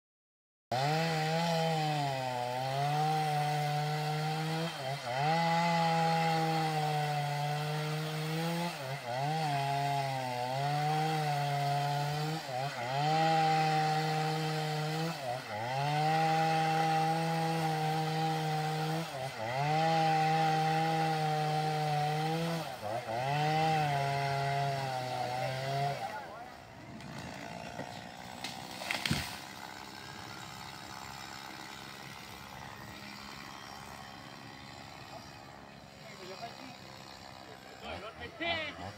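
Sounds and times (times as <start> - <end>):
chainsaw cutting wood: 0.7 - 38.9.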